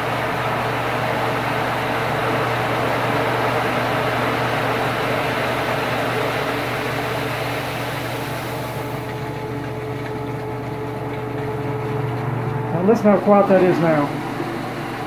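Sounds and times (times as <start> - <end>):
spinning tub and water whir: 0.0 - 15.0
washer motor hum: 0.0 - 15.0.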